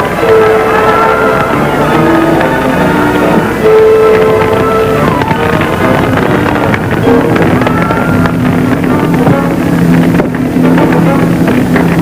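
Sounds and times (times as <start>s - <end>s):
dramatic film music: 0.0s - 12.0s
engine-like rumble: 0.0s - 12.0s.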